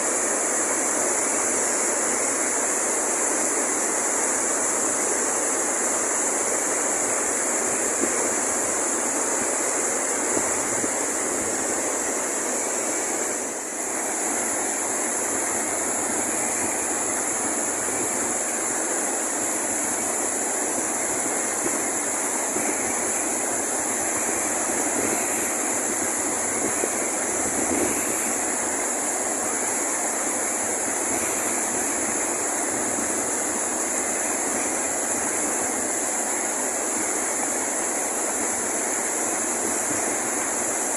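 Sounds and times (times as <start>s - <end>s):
high-pitched hiss: 0.0s - 40.9s
waterfall rushing and crashing: 0.0s - 40.9s.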